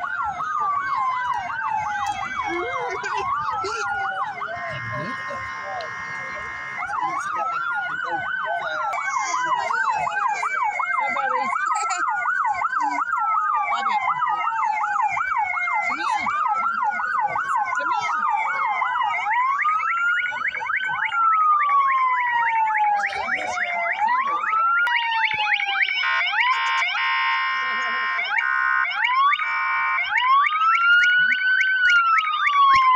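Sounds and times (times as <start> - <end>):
fast siren yelp: 0.0 - 32.9
siren wail: 0.0 - 32.9.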